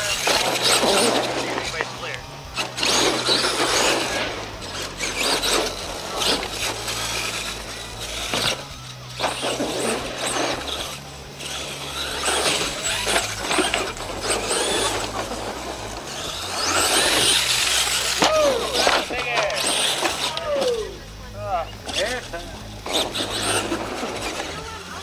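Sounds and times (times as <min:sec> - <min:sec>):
electric motor whining: 0:00.0 - 0:25.0.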